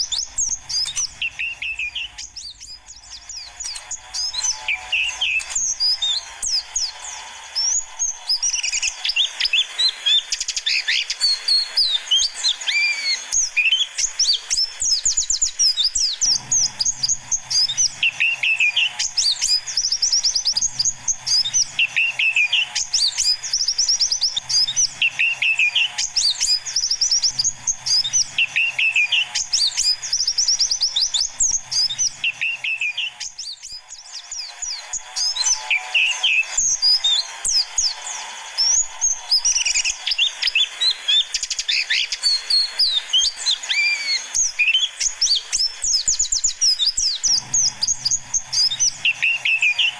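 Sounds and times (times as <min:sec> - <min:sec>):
birds chirping and twittering: 0:00.0 - 0:49.9
lower bird call: 0:00.0 - 0:49.9.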